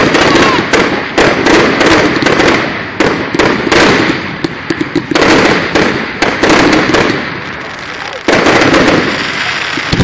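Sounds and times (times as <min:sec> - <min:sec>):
fireworks bursting: 0:00.0 - 0:10.0
fireworks crackle: 0:00.0 - 0:10.0.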